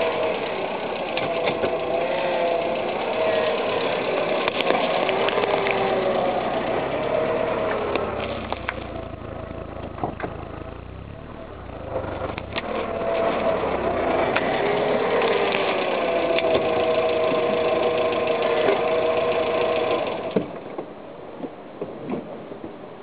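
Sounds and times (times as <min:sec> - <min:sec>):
car engine whining: 0:00.0 - 0:21.3.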